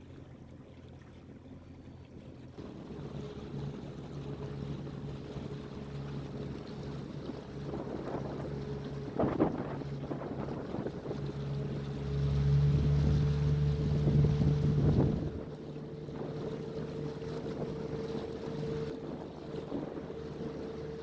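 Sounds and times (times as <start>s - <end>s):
boat engine humming: 0.0s - 21.0s
wind rumbling on microphone: 2.6s - 21.0s.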